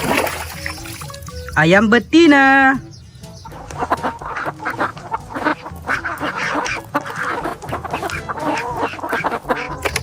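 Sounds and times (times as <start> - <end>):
fowl clucking and honking: 0.1 - 10.0.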